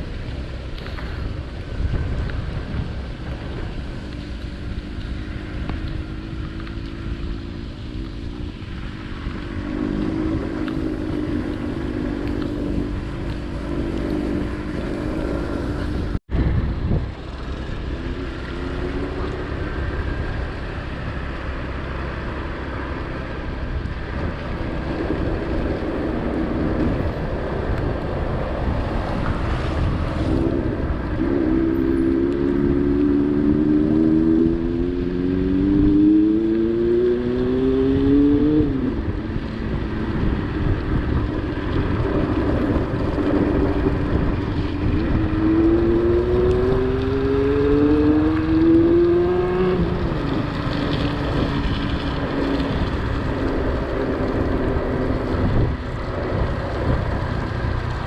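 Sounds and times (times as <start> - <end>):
low wind rumble on microphone: 0.0 - 58.0.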